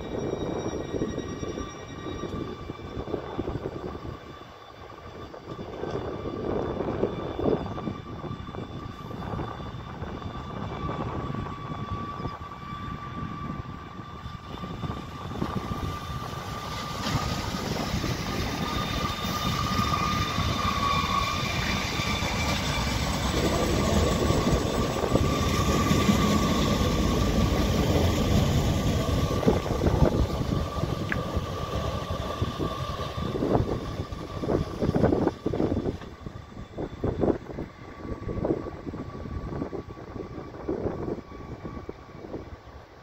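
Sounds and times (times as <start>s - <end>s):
steady whine: 0.0s - 43.0s
train motors and wheels rumbling: 0.0s - 43.0s.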